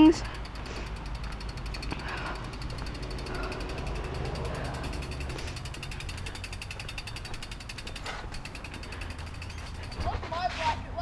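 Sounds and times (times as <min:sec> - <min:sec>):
bike freehub ticking: 0:00.0 - 0:10.1.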